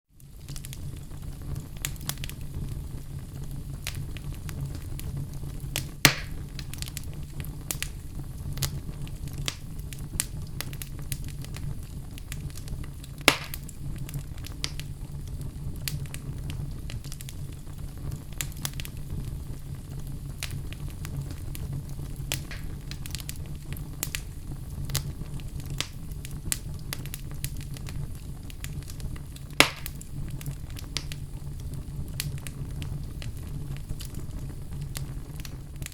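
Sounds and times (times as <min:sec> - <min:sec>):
fireplace fire crackling: 0:00.1 - 0:35.9.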